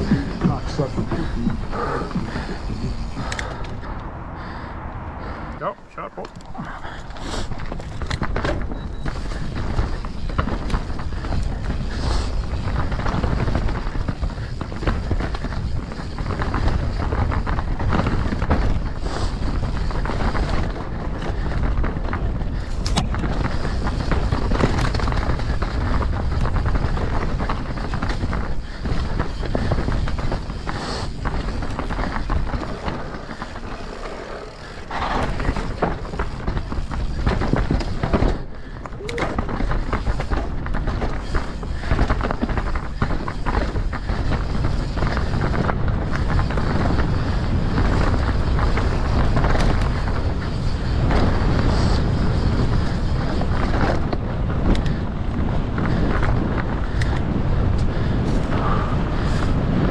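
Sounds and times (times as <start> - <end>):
mountain bike rattling on trail: 0.0 - 5.4, 6.2 - 59.9
wind on microphone: 0.0 - 5.6, 6.5 - 59.9.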